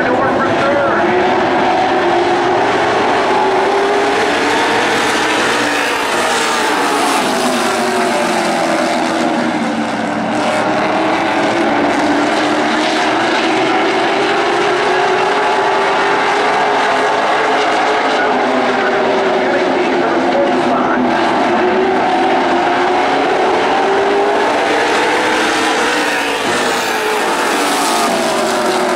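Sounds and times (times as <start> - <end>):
race car engines roaring: 0.0 - 28.9.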